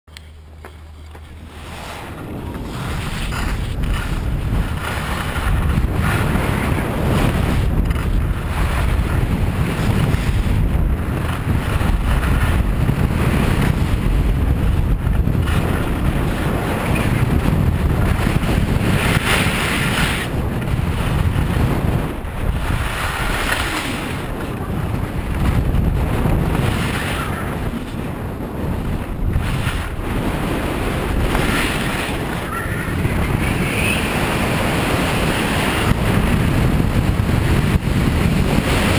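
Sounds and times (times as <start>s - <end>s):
skis sliding over packed snow: 0.1s - 38.9s
wind buffeting microphone: 0.1s - 38.9s.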